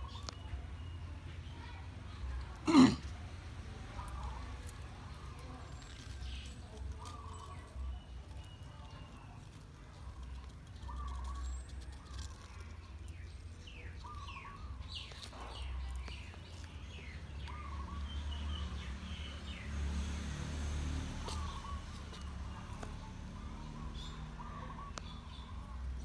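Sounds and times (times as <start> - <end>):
birds warbling calls: 0.0 - 1.8, 4.0 - 19.8, 21.1 - 26.0.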